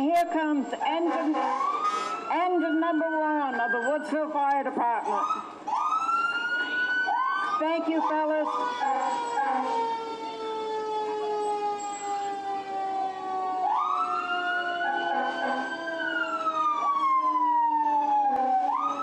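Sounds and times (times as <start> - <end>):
fire truck sirens: 0.0 - 19.0.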